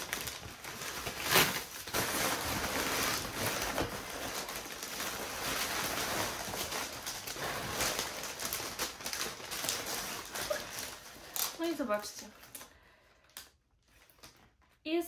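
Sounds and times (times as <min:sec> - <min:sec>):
cardboard and plastic rustling: 0:00.0 - 0:14.9.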